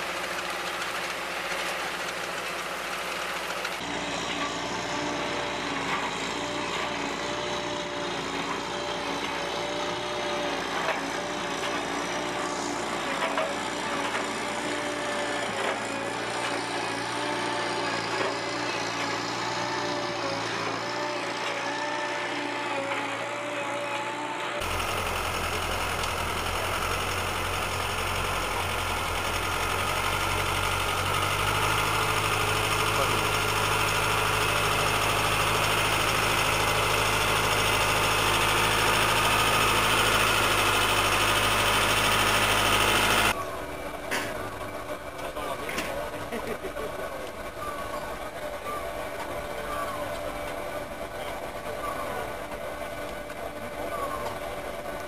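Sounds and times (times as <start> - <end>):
harvester engine with whine: 0.0 - 55.0
tractor engine humming: 0.0 - 55.0.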